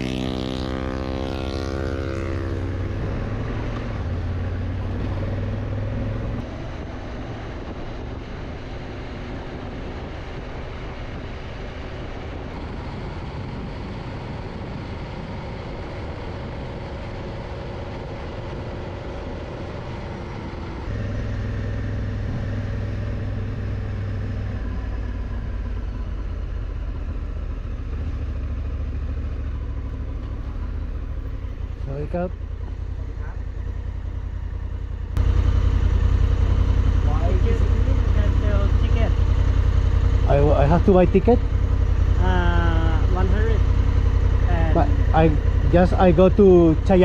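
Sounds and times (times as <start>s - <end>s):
deep engine rumble: 0.0s - 47.0s
motorcycle engine running: 0.0s - 47.0s.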